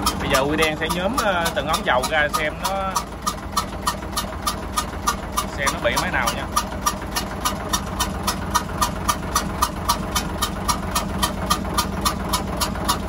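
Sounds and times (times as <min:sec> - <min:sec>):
diesel engine idling: 0:00.0 - 0:13.0
sharp repeating engine clack: 0:00.0 - 0:13.0.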